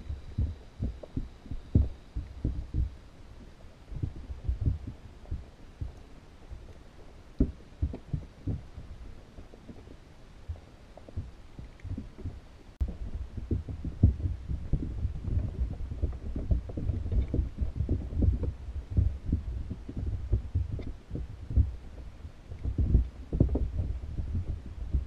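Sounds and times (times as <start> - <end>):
muffled underwater thumps: 0.0 - 6.7, 7.4 - 25.0
faint ticks: 0.0 - 25.0.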